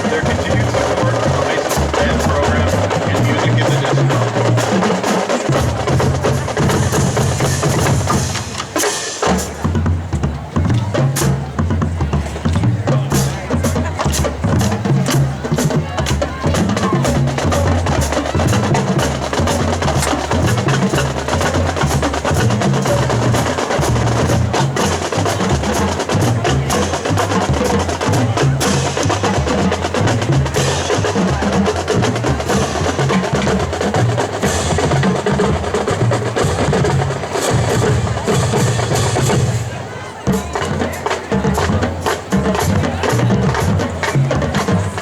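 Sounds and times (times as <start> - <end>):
snare drum strokes: 0.0 - 45.0.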